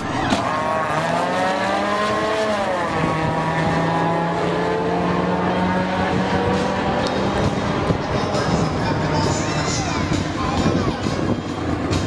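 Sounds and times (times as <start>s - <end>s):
car engines racing at full throttle: 0.0s - 12.0s.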